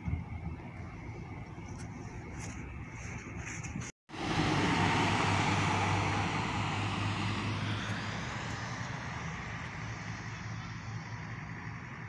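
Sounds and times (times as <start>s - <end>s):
bus engine drone: 0.0s - 12.0s
tyre and road rush: 0.0s - 12.0s.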